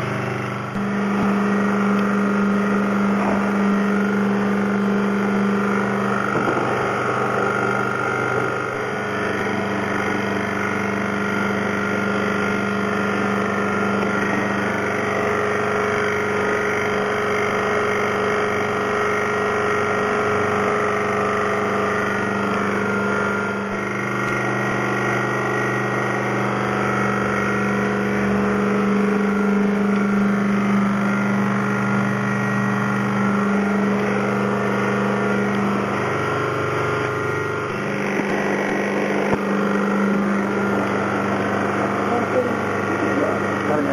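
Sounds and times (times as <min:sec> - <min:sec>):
electric machine hum: 0:00.0 - 0:43.9
lower hum: 0:00.0 - 0:43.9.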